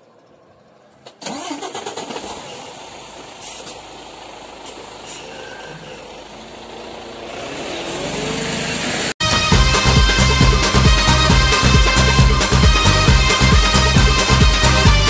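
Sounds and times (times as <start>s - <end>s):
car engine cranking and starting: 0.0s - 15.0s
car engine running: 0.0s - 15.0s
traffic moving off: 0.0s - 15.0s.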